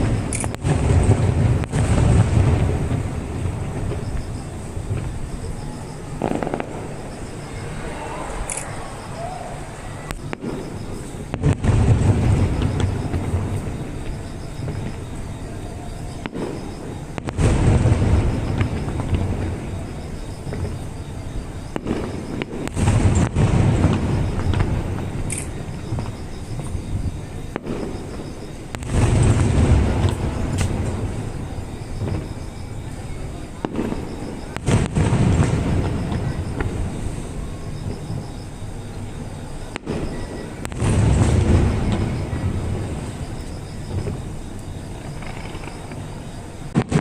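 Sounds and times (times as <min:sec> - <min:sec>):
firework sharp pops: 0:00.0 - 0:07.7, 0:10.1 - 0:15.1, 0:16.0 - 0:21.0, 0:21.6 - 0:38.4, 0:39.6 - 0:46.1, 0:46.7 - 0:47.0
firework sharp crack: 0:00.0 - 0:15.3, 0:16.0 - 0:20.9, 0:21.6 - 0:26.8, 0:27.5 - 0:38.3, 0:39.6 - 0:46.1, 0:46.7 - 0:47.0
deep rumbling firework boom: 0:00.0 - 0:46.0
outdoor background noise: 0:00.0 - 0:47.0.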